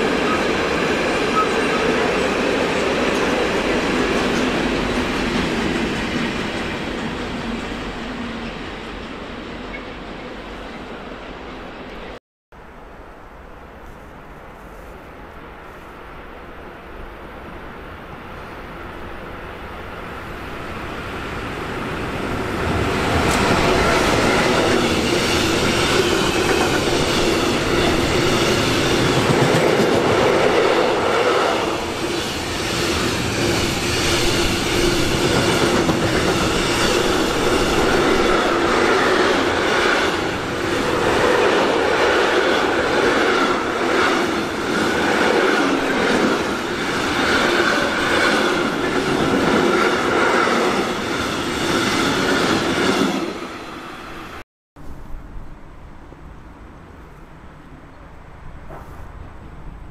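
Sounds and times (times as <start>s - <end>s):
train passing on tracks: 0.0s - 59.9s.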